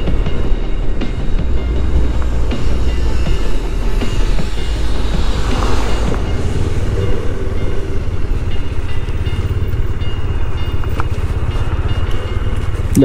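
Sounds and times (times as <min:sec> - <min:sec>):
motorcycle engine running: 0:00.0 - 0:13.0
wind over microphone: 0:00.1 - 0:11.5.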